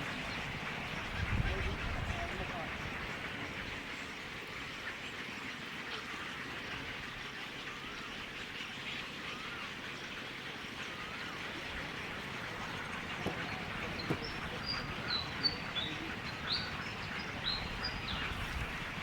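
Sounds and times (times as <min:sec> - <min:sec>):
faint bird calls: 0:00.0 - 0:19.0
steady outdoor hiss: 0:00.0 - 0:19.0.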